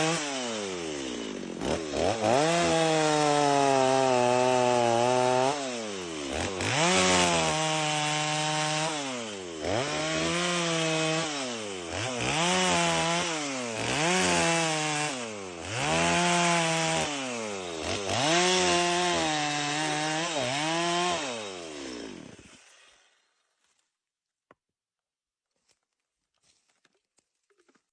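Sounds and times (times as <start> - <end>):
chainsaw sawing through wood: 0.0 - 23.6.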